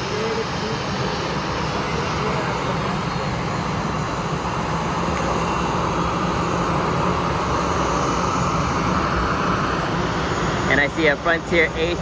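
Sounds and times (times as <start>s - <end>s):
jet airliner engines: 0.0s - 12.0s.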